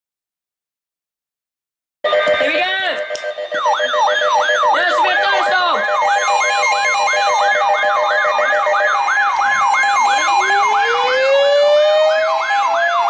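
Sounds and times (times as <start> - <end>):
electronic siren yelping: 2.0 - 13.0
siren winding up: 2.1 - 13.0.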